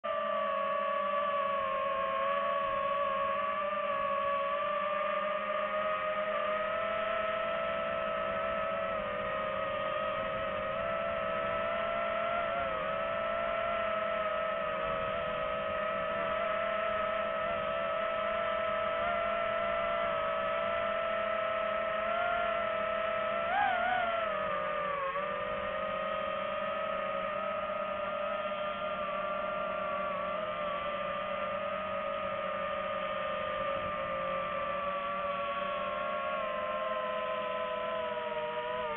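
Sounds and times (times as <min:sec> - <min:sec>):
drone propellers whining: 0:00.1 - 0:38.9.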